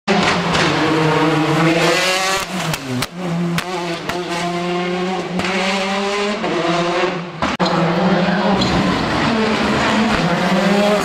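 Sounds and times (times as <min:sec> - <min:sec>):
rally car engine accelerating: 0:00.1 - 0:11.0.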